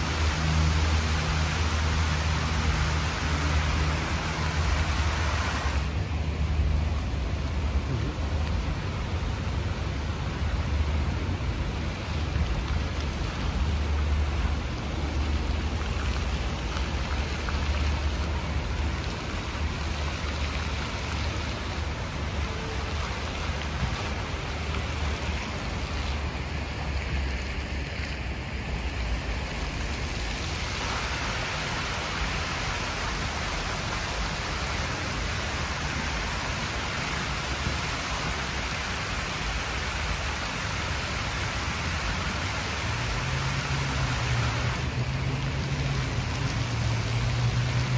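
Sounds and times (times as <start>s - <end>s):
fountain water splashing into pool: 0.0s - 47.9s.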